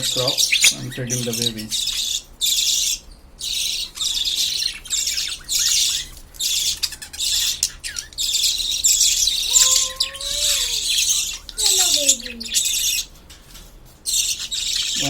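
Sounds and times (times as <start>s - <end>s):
baby birds begging calls: 0.0s - 13.2s, 14.0s - 15.0s.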